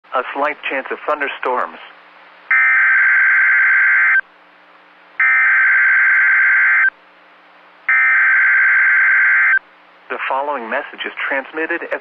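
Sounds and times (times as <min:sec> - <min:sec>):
faint hum: 0:00.1 - 0:12.0.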